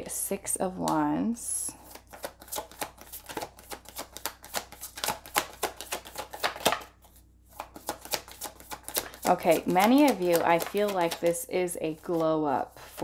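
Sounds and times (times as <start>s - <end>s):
cards being shuffled: 1.8s - 13.0s.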